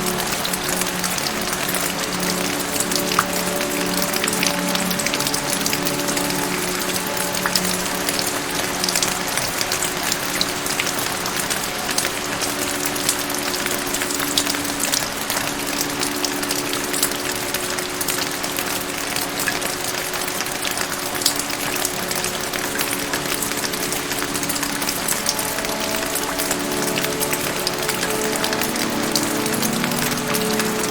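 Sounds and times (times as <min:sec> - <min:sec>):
heavy rain: 0:00.0 - 0:30.9
soft low musical tones: 0:00.0 - 0:30.9.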